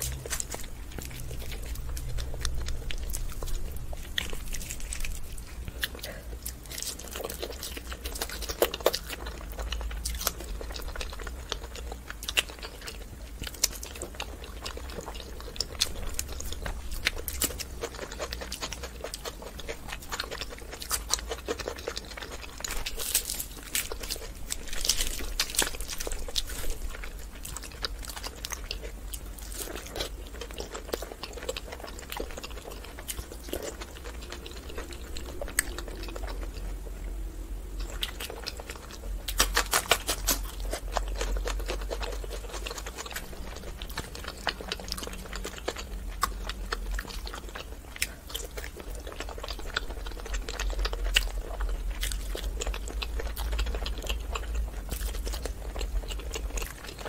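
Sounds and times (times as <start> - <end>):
chewing and biting: 0.0 - 57.0
steady low hum: 0.0 - 57.0.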